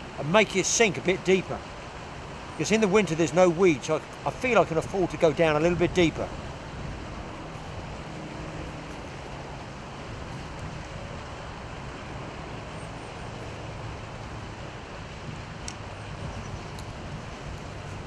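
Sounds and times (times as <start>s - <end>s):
steady rushing background noise: 0.0s - 18.0s.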